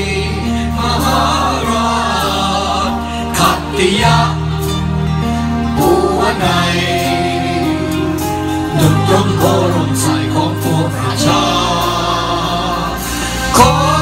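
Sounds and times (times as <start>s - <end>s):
live band music: 0.0s - 14.0s
voices singing held notes: 0.0s - 14.0s.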